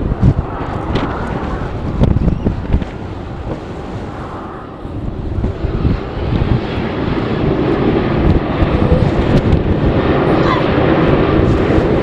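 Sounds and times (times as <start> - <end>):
airliner engine noise: 0.0 - 12.0
wind buffeting microphone: 0.0 - 12.0.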